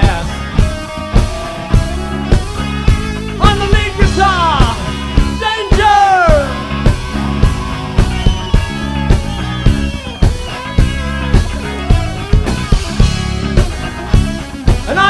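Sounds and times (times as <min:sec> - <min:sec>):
live rock band playing: 0:00.0 - 0:15.0
sliding guitar lead line: 0:00.0 - 0:15.0.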